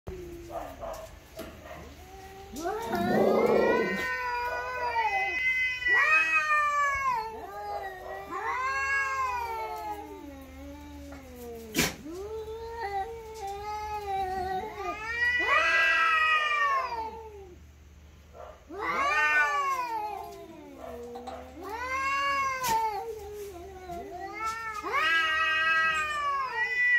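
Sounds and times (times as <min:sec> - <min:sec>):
cats caterwauling: 0:00.1 - 0:17.8, 0:18.6 - 0:26.9.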